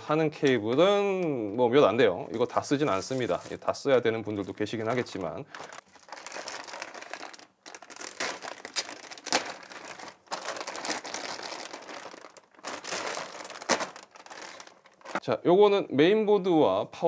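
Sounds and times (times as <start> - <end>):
plastic packaging crinkling: 0.4 - 15.2.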